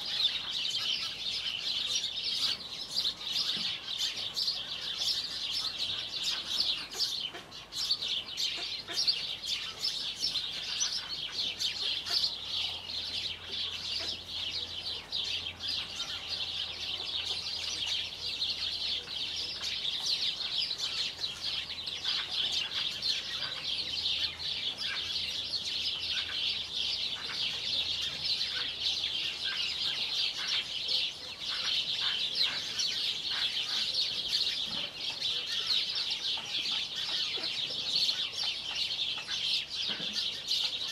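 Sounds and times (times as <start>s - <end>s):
chickens clucking: 0.0s - 40.9s
small birds chirping: 0.0s - 40.9s.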